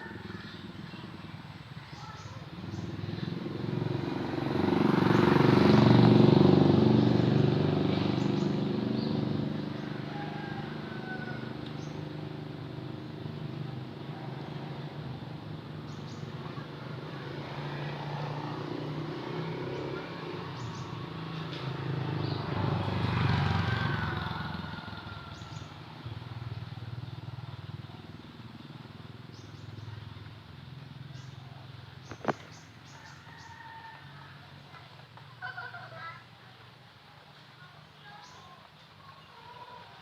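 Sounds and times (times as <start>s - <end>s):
vehicle engine passing by: 0.0s - 36.2s.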